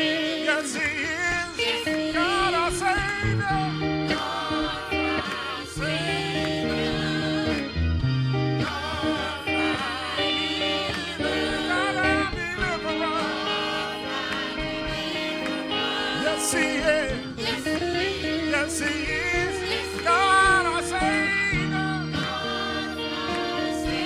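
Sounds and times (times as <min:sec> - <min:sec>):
guitar accompaniment: 0:00.0 - 0:24.0
person singing with vibrato: 0:00.0 - 0:24.0.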